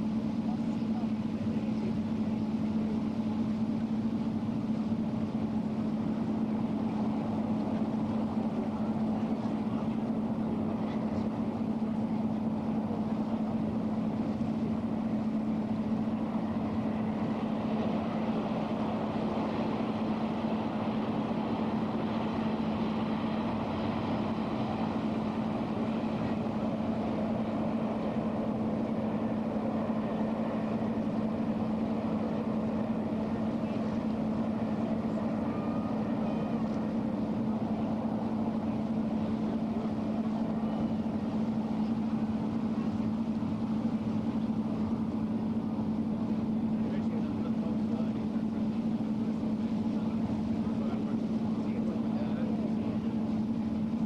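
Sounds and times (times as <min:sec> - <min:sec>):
boat engine humming: 0:00.0 - 0:54.0
rushing water and air: 0:00.0 - 0:54.0.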